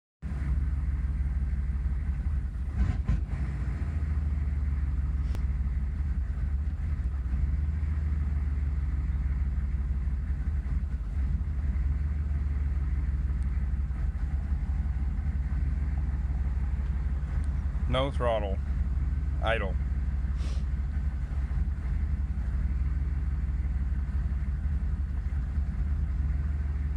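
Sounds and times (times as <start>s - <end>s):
diesel engine idling roughly: 0.2s - 26.9s.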